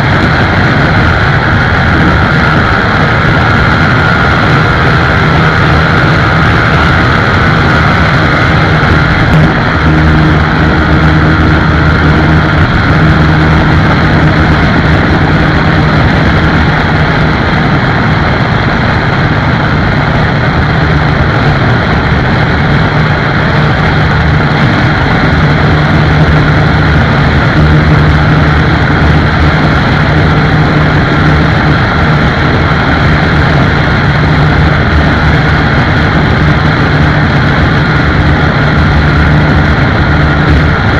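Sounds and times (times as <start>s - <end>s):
motorcycle engine cruising: 0.0s - 40.9s
steady rush of noise: 0.0s - 40.9s.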